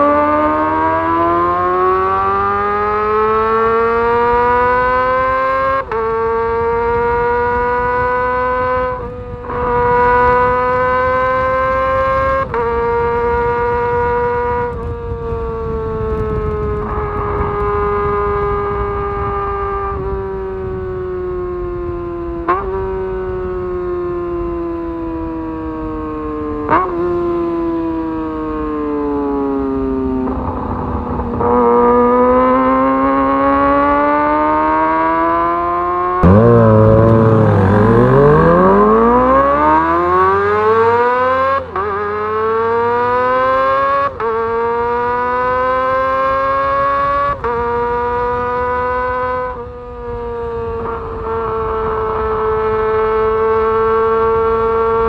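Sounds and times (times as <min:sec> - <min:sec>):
motorcycle engine revving: 0:00.0 - 0:27.7, 0:29.1 - 0:55.0.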